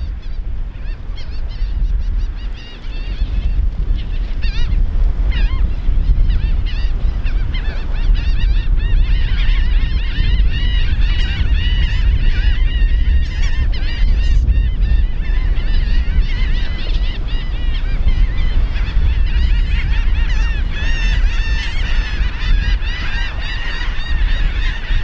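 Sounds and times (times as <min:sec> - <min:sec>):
gulls calling: 0:00.0 - 0:25.0.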